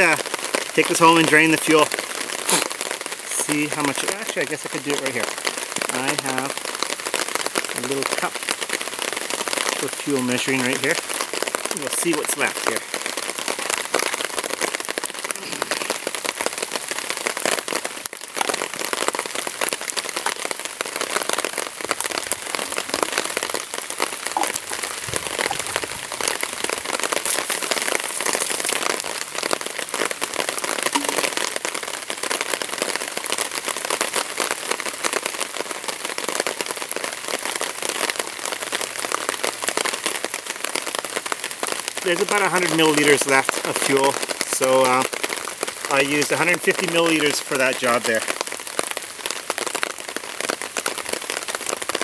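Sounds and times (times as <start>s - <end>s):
dense crackling patter: 0.0s - 35.5s, 41.6s - 52.0s.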